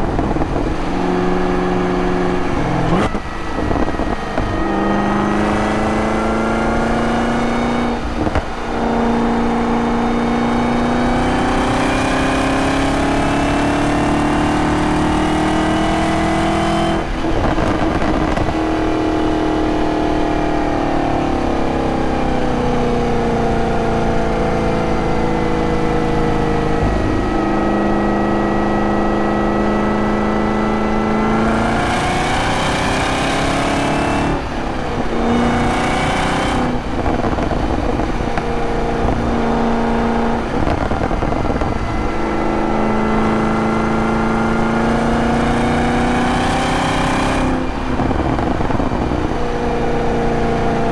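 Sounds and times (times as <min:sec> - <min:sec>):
car engine under way: 0:00.0 - 0:50.9.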